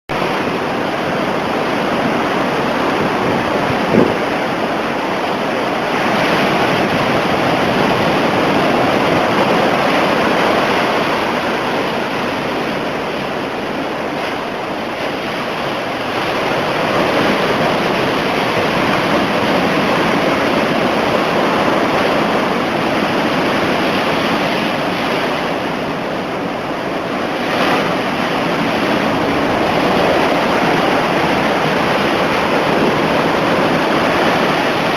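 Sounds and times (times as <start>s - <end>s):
surf crashing on shore: 0.1s - 34.9s
wind on microphone: 0.1s - 34.9s.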